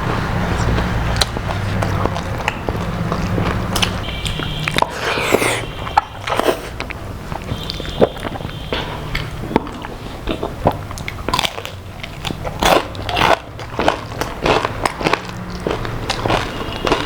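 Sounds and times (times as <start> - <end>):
crunchy biting and chewing: 0.0 - 17.0.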